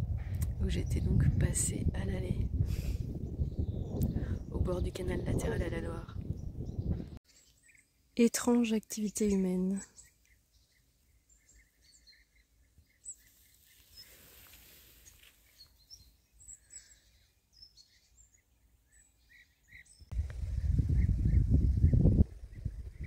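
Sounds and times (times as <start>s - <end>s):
birds chirping: 3.2s - 23.0s.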